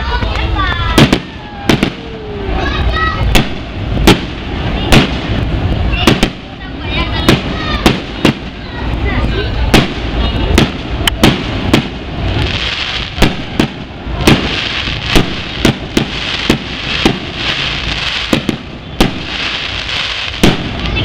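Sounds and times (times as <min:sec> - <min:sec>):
continuous hiss: 0:00.0 - 0:21.0
fireworks bangs: 0:00.0 - 0:21.0.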